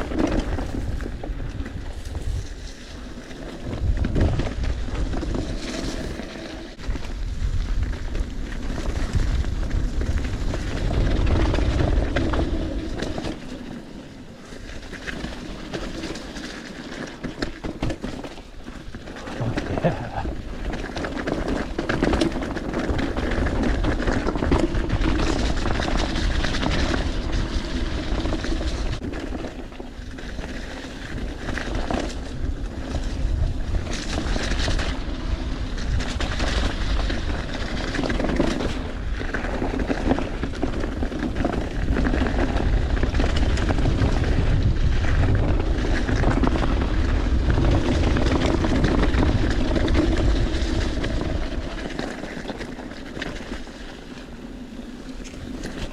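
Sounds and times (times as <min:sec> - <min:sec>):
wind rumble on microphone: 0:00.0 - 0:16.6, 0:17.3 - 0:55.9
bike rattling and knocking: 0:00.0 - 0:55.9.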